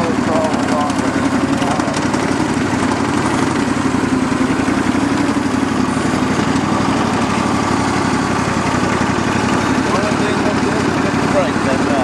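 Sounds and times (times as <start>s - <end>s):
garden tractor engine running: 0.0s - 12.0s.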